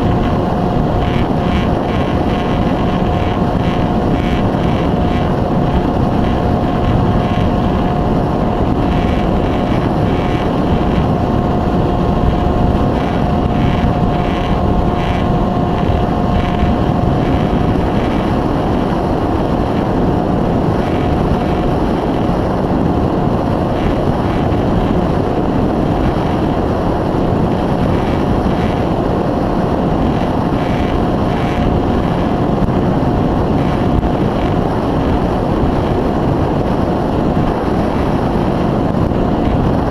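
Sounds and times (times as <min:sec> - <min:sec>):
electric motor propeller whine: 0:00.0 - 0:39.9
wind rumble on microphone: 0:00.0 - 0:39.9.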